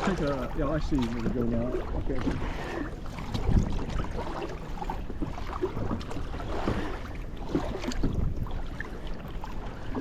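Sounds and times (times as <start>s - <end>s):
paddle strokes splashing: 0.0s - 10.0s
water washing against hull: 0.0s - 10.0s.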